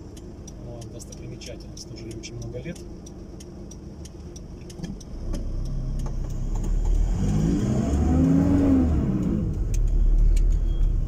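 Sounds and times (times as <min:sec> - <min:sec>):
road rumble: 0:00.0 - 0:11.0
car engine accelerating: 0:02.0 - 0:11.0.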